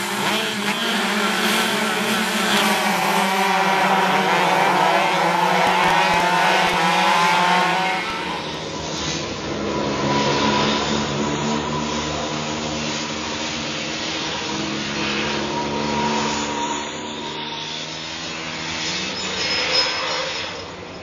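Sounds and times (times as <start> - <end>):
single kart engine: 0.0 - 20.9
kart engines revving: 0.0 - 21.0.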